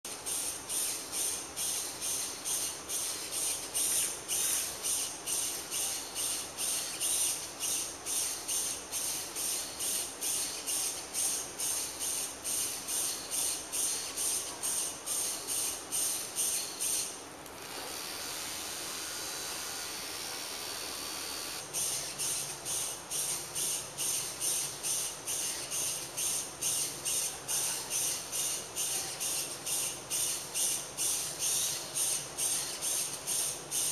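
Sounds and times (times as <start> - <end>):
steady hiss: 0.1 - 33.9
robot drive motors whirring in pulses: 0.3 - 33.9.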